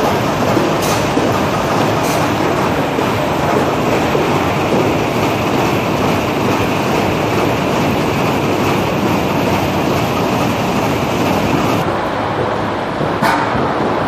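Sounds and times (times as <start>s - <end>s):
eggs clattering on roller conveyor: 0.0s - 11.8s
machine drive drone: 0.0s - 14.0s.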